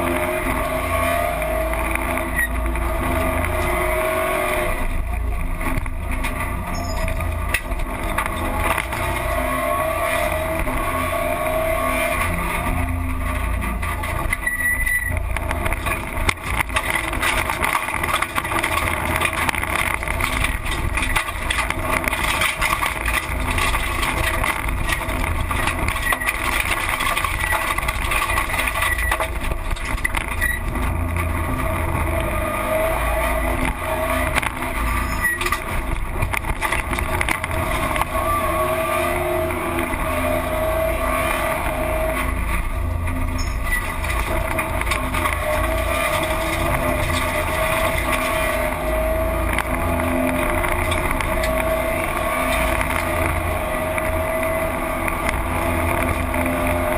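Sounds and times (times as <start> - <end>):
car engine revving: 0.0 - 56.9
low road and drivetrain drone: 0.0 - 56.9.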